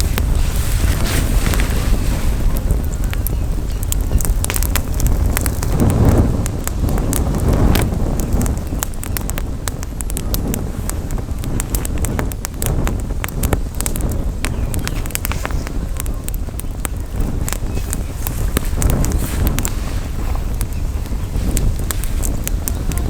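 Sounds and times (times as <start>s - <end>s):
campfire crackling and popping: 0.0s - 23.0s
wind rumble on microphone: 0.0s - 23.0s.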